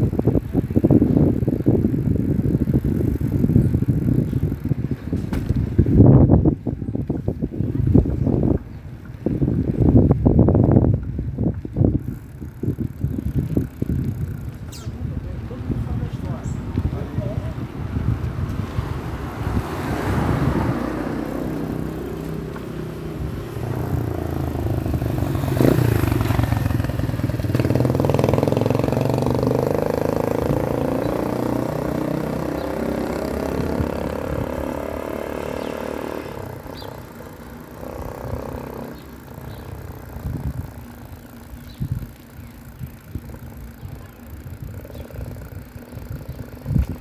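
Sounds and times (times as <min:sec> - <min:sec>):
motorcycle engine running: 0:00.0 - 0:47.0
wind on microphone: 0:00.0 - 0:47.0.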